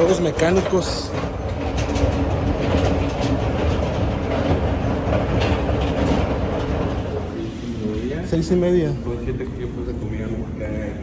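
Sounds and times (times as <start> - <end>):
mechanical rumble of rides: 0.0 - 11.0.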